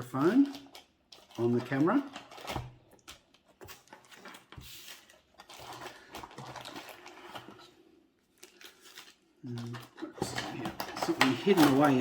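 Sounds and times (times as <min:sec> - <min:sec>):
paper and cardboard rustling: 0:00.0 - 0:12.0.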